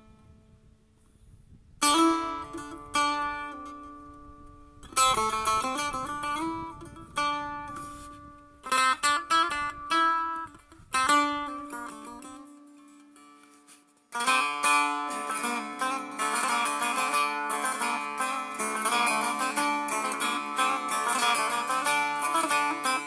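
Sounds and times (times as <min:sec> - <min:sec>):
long-necked lute plucked: 0:00.0 - 0:00.8, 0:01.8 - 0:23.0.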